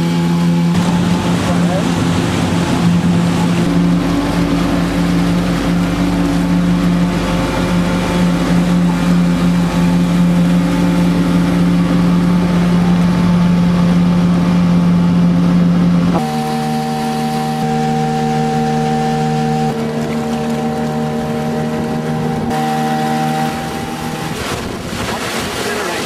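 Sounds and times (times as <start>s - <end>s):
boat engine droning: 0.0s - 26.0s
rushing water: 0.0s - 26.0s
wind: 0.0s - 26.0s.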